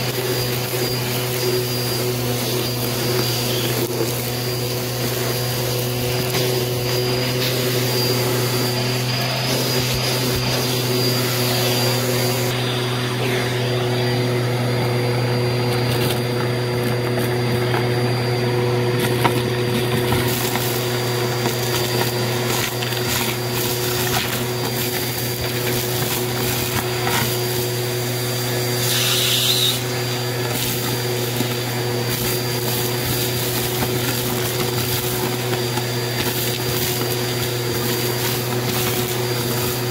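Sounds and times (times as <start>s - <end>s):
debris rattling up hose: 0.0s - 12.6s, 18.8s - 39.9s
vacuum cleaner running: 0.0s - 39.9s.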